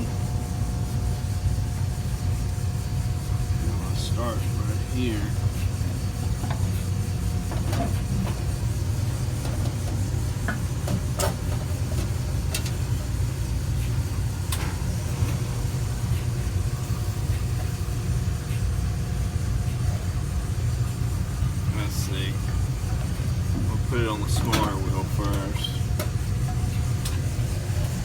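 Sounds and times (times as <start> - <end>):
low machinery rumble: 0.0 - 28.0.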